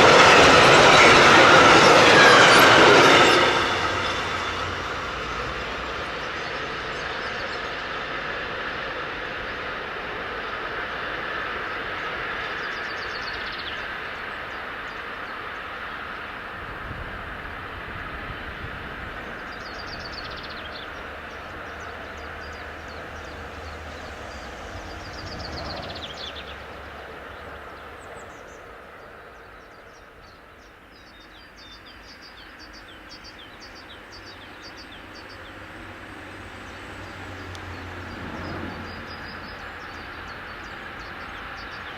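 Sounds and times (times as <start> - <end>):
train rolling on tracks: 0.0 - 41.9.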